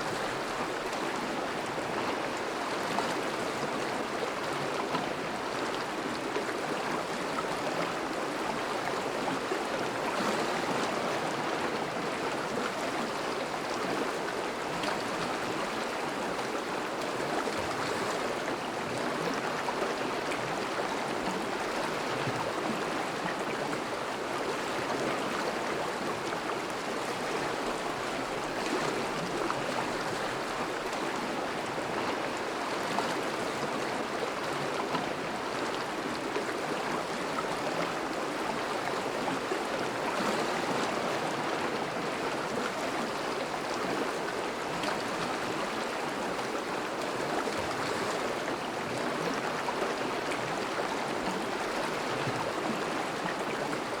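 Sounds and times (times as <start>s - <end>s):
river water rushing and bubbling: 0.0s - 54.0s.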